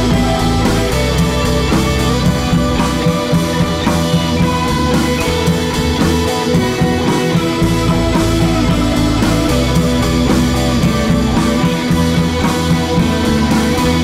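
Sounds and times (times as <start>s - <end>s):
drum kit: 0.0s - 14.0s
electric guitar: 0.0s - 14.0s.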